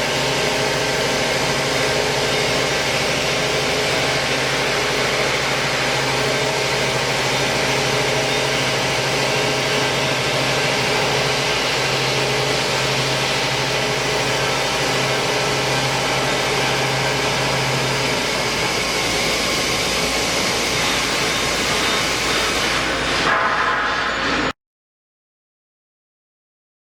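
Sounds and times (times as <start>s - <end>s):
band saw cutting steel: 0.0s - 24.5s.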